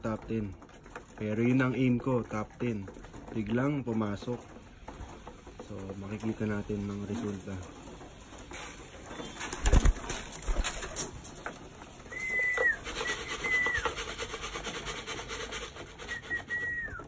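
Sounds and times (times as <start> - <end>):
pigeons pecking grain: 0.0 - 17.0.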